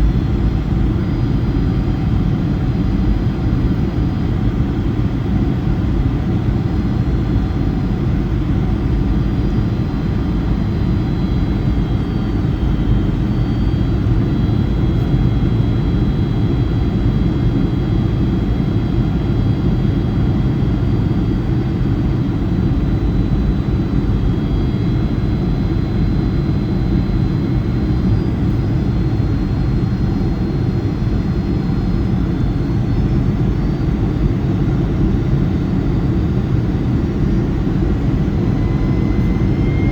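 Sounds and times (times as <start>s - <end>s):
faint high engine whine: 0.0s - 39.9s
jet engine rumble in cabin: 0.0s - 39.9s.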